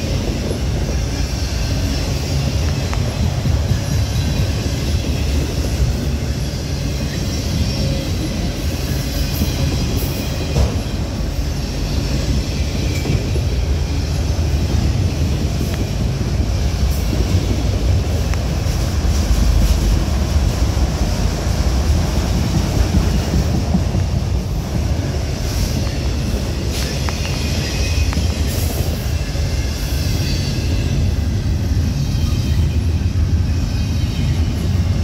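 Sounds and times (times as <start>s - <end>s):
steel train wheels rumbling on rail: 0.0s - 35.0s.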